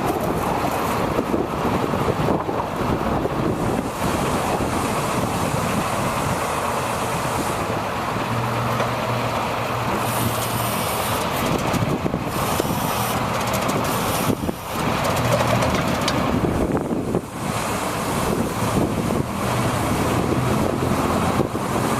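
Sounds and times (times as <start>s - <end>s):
truck engine running: 0.0s - 21.9s.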